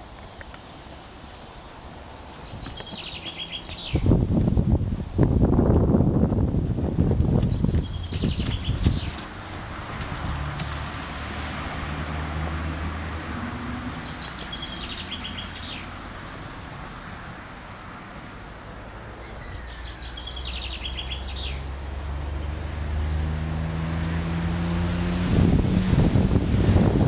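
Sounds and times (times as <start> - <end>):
low engine hum: 2.4 - 27.0.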